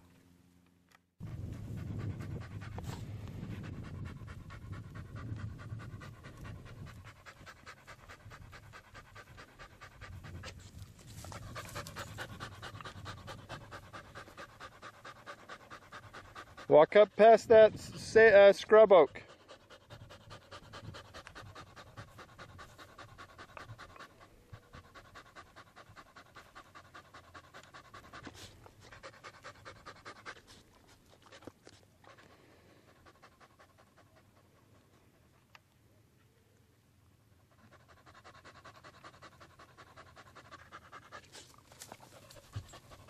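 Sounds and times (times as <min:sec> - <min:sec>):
dog panting: 0:01.2 - 0:35.7, 0:37.3 - 0:43.0.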